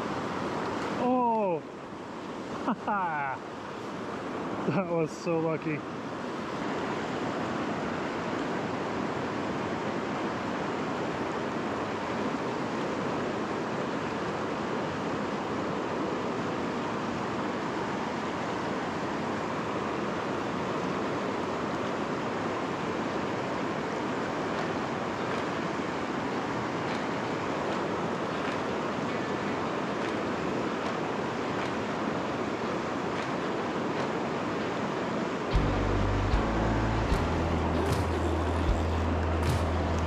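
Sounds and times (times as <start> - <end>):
river rapids rushing over boulders: 0.0 - 40.0.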